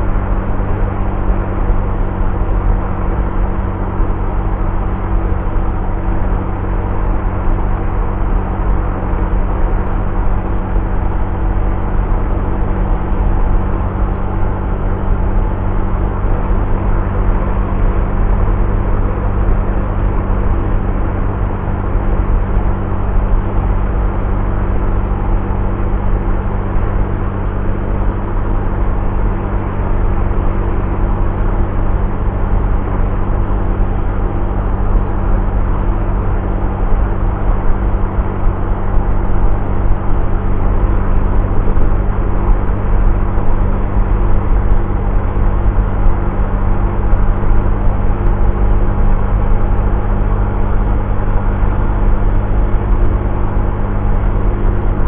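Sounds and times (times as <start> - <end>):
scooter engine humming: 0.0 - 55.0
wind and road noise: 0.0 - 55.0.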